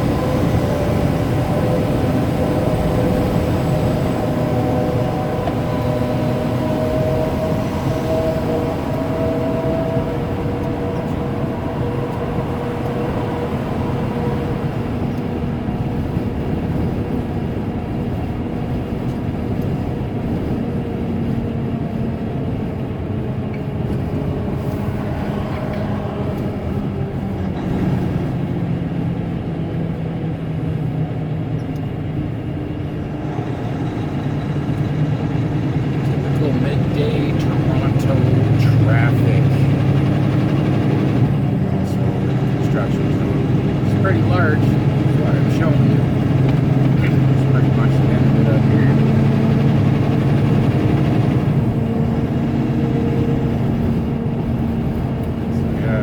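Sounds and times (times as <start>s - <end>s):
road noise inside cab: 0.0s - 56.0s
truck diesel engine droning: 0.0s - 56.0s.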